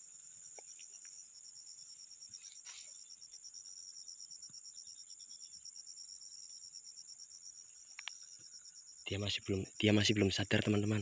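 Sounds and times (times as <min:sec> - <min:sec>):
insect chorus drone: 0:00.0 - 0:11.0
pulsing insect trill: 0:00.0 - 0:11.0.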